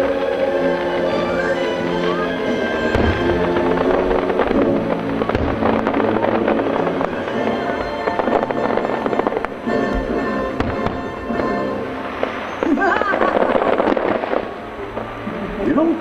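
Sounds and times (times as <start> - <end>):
fireworks cracking and popping: 0.0 - 16.0
fireworks low booms: 0.0 - 16.0
music: 0.0 - 16.0.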